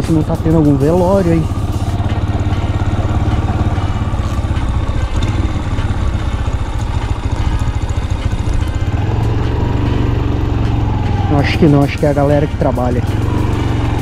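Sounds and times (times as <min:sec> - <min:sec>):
motorcycle engine at low speed: 0:00.0 - 0:14.0.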